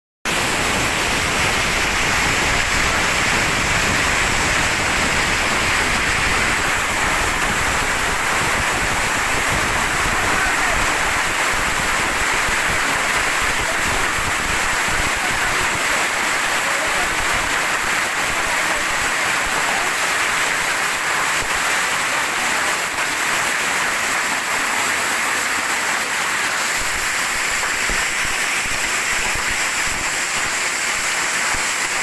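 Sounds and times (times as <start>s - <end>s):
heavy rain and hail: 0.3s - 32.0s.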